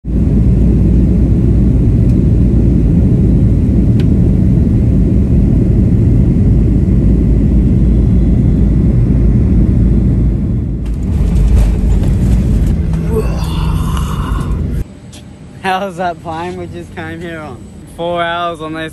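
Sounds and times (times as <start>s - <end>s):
airliner cabin engine rumble: 0.1s - 15.4s.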